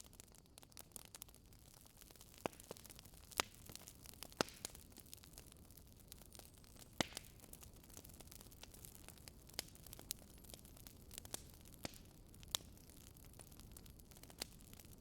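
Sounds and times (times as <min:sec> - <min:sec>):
faint steady hiss: 0:00.0 - 0:15.0
wood fire crackling and popping: 0:00.0 - 0:15.0.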